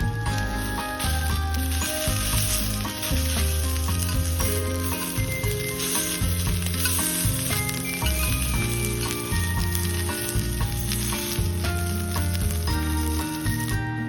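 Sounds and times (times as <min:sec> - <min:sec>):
food sizzling in a pan: 0:00.0 - 0:13.8
music with strong bass: 0:00.0 - 0:14.0.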